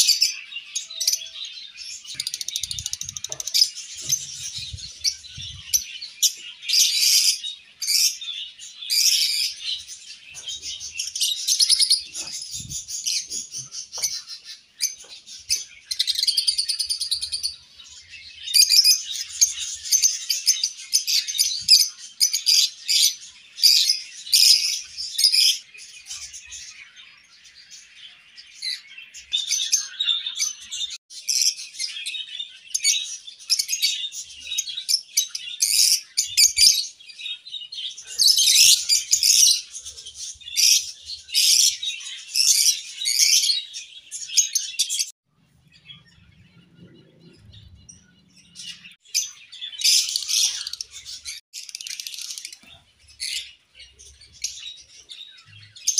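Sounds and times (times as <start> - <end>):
lovebirds chirping: 0.0 - 55.9.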